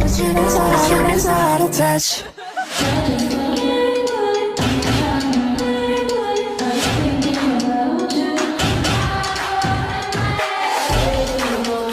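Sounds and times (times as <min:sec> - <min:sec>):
pop song with singing: 0:00.0 - 0:11.9.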